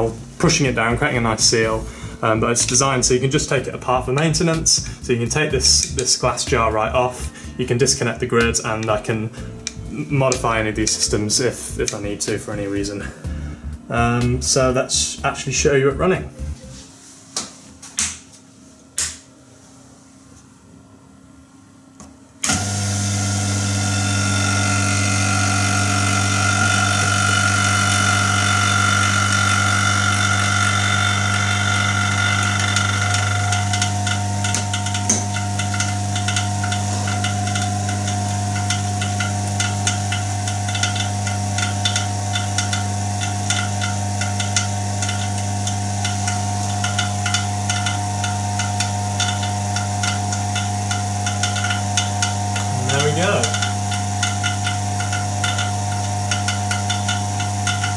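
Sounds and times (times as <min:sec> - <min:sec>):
vacuum pump humming: 0:00.0 - 0:13.9, 0:22.0 - 0:57.9.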